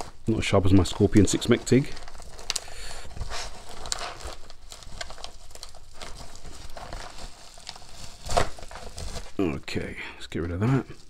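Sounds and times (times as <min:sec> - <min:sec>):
plastic bubble mailer crinkling: 0:00.0 - 0:11.0.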